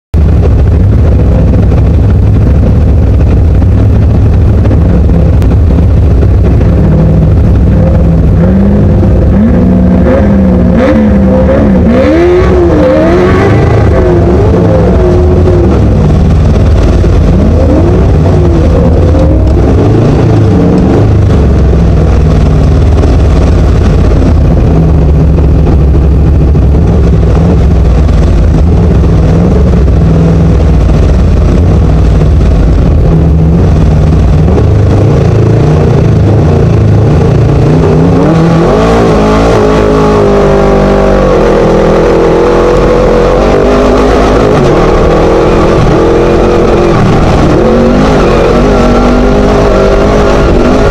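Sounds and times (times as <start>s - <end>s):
heavy rumble from terrain: 0.0s - 50.9s
race buggy engine revving: 0.2s - 50.9s.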